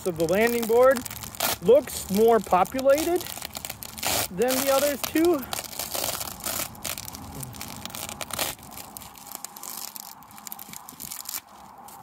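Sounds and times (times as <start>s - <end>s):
beehive parts cracking and tearing: 0.0s - 12.0s.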